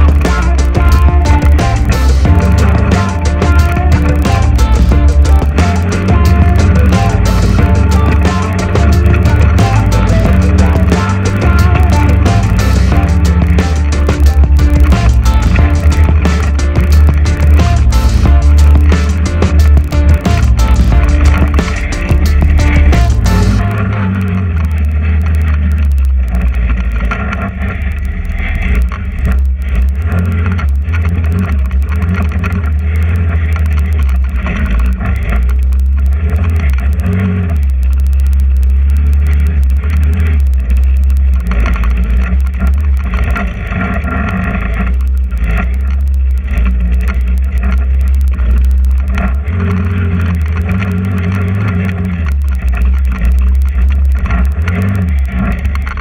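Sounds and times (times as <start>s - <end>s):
go-kart engine under throttle: 0.0s - 56.0s.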